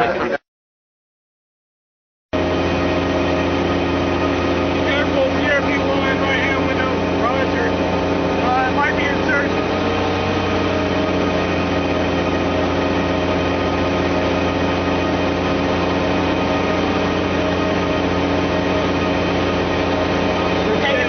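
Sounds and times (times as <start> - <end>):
heavy engine idling: 2.4 - 21.0.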